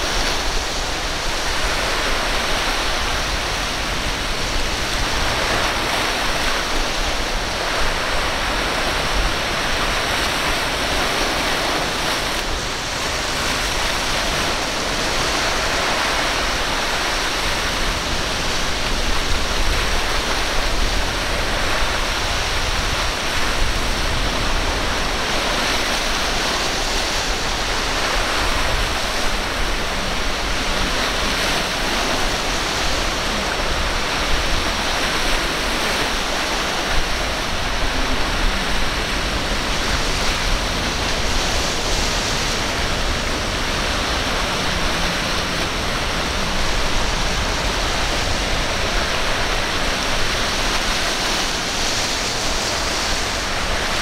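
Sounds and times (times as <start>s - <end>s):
waves breaking: 0.0s - 54.0s.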